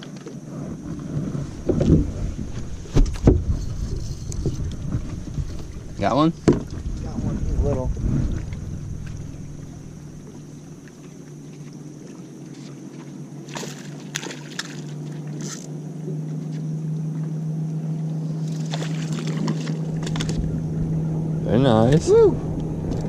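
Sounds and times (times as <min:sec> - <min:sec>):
water splashes: 0:00.0 - 0:21.1
boat motor humming: 0:00.0 - 0:23.0.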